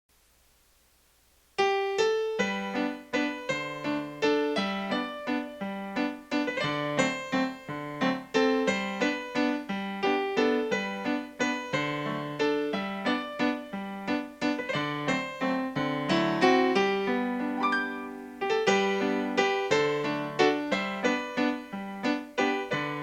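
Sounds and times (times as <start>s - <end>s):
keyboard melody: 1.6s - 23.0s.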